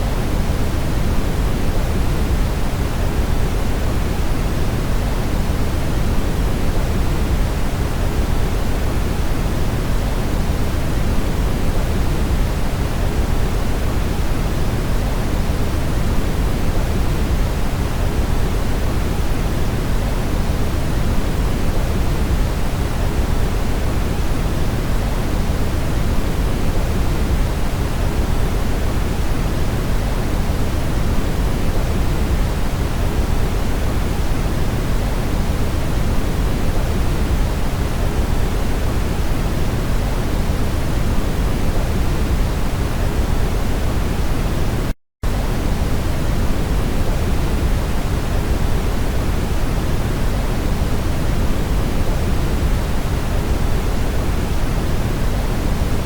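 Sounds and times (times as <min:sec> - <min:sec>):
brown noise hiss-rumble: 0:00.0 - 0:56.0.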